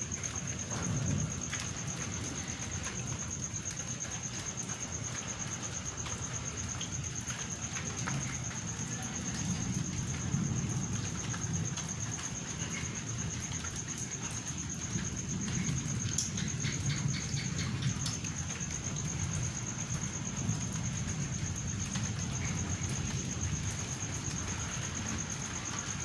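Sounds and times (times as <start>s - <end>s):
drops ticking on a surface: 0.0s - 26.0s
low roll of thunder: 0.0s - 26.0s
steady rain: 0.0s - 26.0s.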